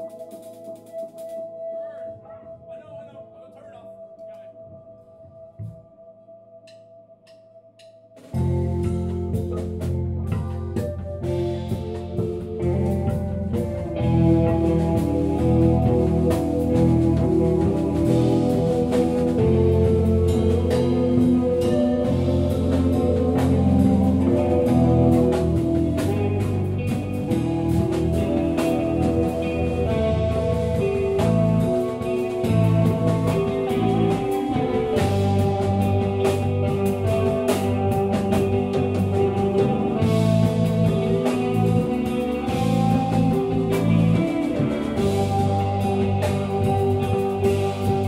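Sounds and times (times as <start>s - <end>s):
drum kit: 0.0s - 2.8s, 6.7s - 48.0s
electric guitars and bass: 0.0s - 48.0s.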